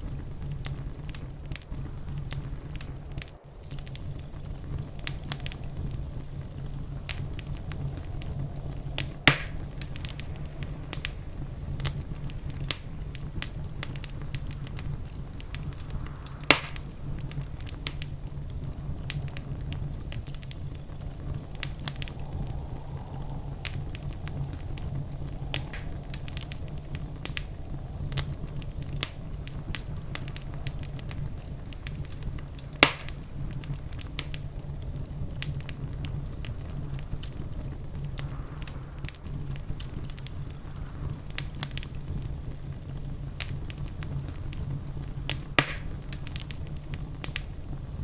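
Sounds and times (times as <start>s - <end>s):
sharp fire pops: 0.0s - 48.0s
wood fire crackling: 0.0s - 48.0s.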